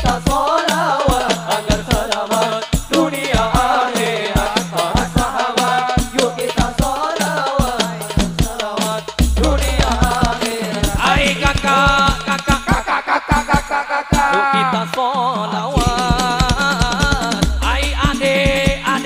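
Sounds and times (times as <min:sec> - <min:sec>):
frame drums beating: 0:00.0 - 0:19.0
men singing into microphones: 0:00.0 - 0:19.0.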